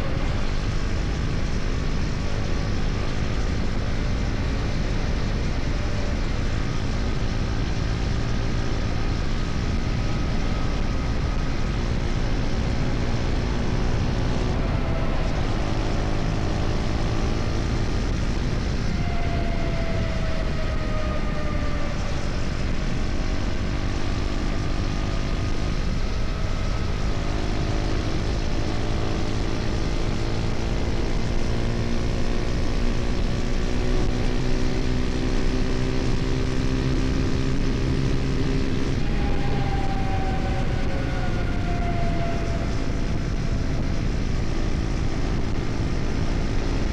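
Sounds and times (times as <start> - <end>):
motorcycle engine cruising: 0.0 - 46.9
road noise: 0.0 - 46.9
wind noise: 0.0 - 46.9.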